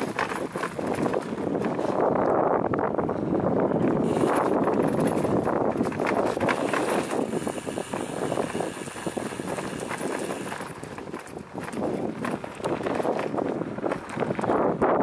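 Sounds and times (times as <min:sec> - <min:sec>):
bicycle tyres crunching on gravel: 0:00.0 - 0:15.0
bike rattling over bumps: 0:00.0 - 0:15.0
wind buffeting microphone: 0:00.0 - 0:15.0.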